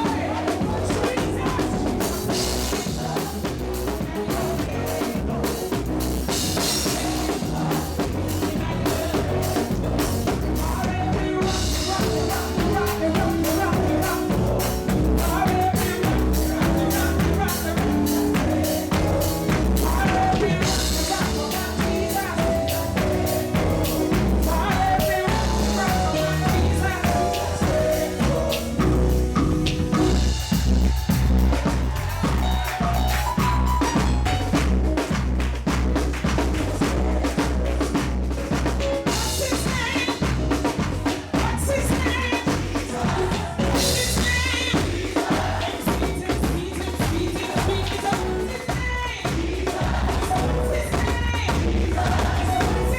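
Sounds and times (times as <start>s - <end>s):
bass line: 0.0s - 52.9s
drum kit with rimshots: 0.0s - 52.9s
gospel band playing: 0.0s - 52.9s
keyboard: 0.0s - 52.9s.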